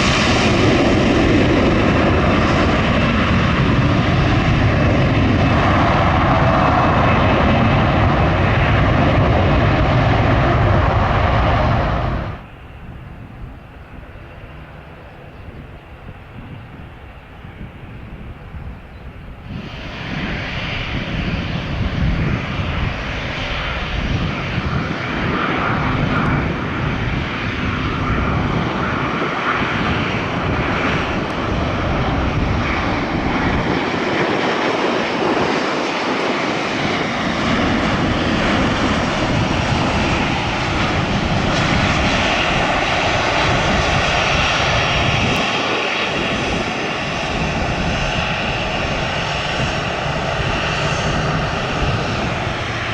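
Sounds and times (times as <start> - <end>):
jet engines roaring: 0.0 - 52.9
steady engine whine: 0.0 - 52.9.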